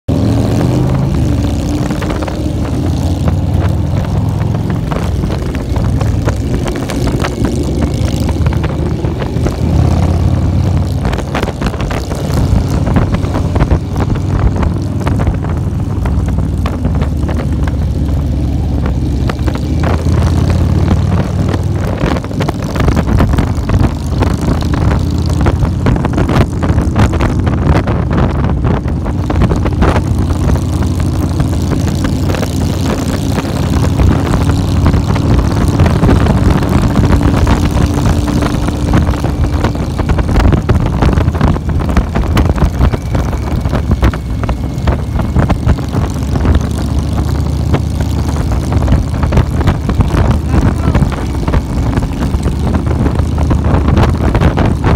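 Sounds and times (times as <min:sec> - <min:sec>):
motorcycle engines running: 0:00.0 - 0:54.9
wind buffeting microphone: 0:00.1 - 0:54.9.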